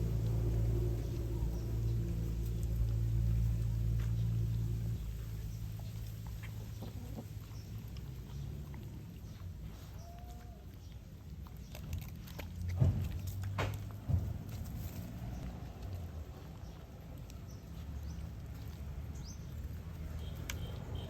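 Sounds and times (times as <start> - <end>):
dog chewing and lapping: 0.0 - 21.0.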